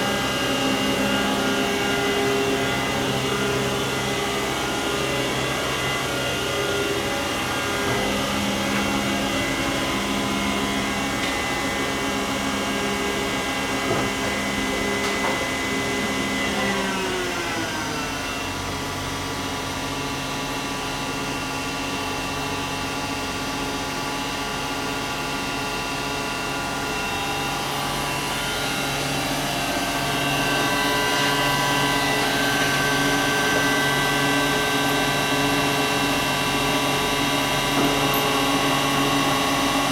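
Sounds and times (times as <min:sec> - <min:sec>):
lathe spindle whine: 0:00.0 - 0:39.9.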